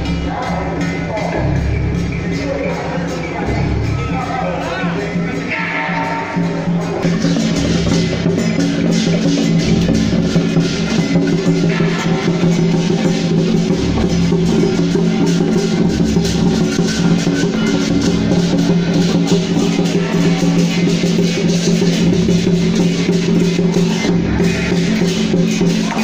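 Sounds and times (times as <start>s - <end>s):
big drum beating: 0.0s - 26.0s
cymbals clashing: 0.0s - 26.0s.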